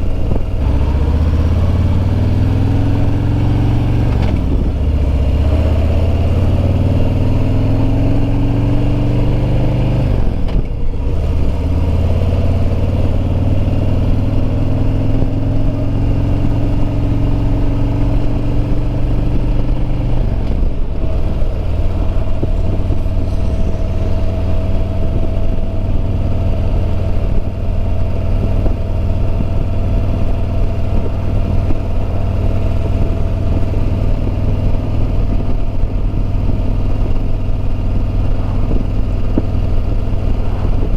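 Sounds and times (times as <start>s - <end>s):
motorcycle engine accelerating: 0.0s - 40.9s
wind on microphone: 0.0s - 40.9s.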